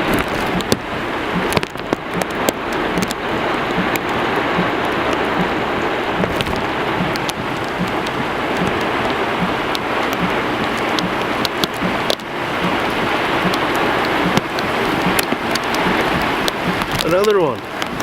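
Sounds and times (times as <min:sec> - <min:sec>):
heavy rain hiss: 0:00.0 - 0:18.0
raindrops ticking close by: 0:00.0 - 0:18.0.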